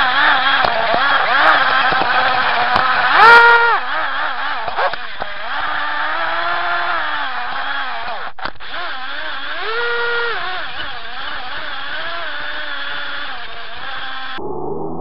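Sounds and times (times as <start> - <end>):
slot car motor whining: 0.0 - 15.0.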